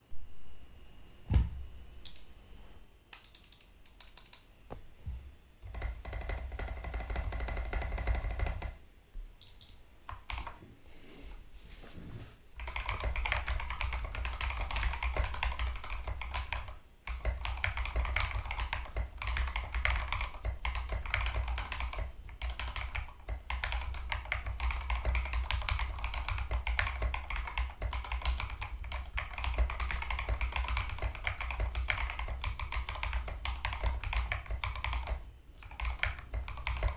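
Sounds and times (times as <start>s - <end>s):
typing on mechanical keyboard: 3.1s - 4.5s, 5.6s - 8.8s, 9.4s - 10.6s, 12.6s - 36.9s.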